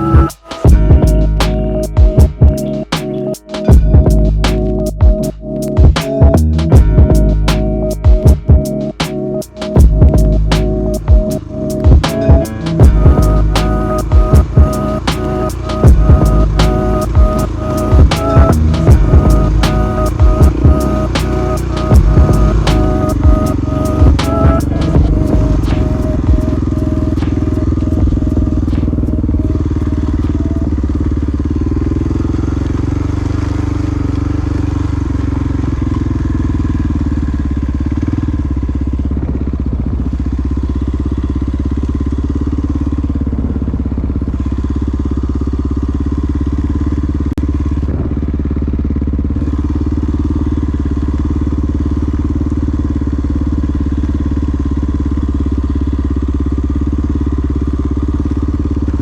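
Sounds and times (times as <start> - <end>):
motorcycle engine running: 0.1 - 2.7, 5.8 - 8.7, 9.8 - 59.0.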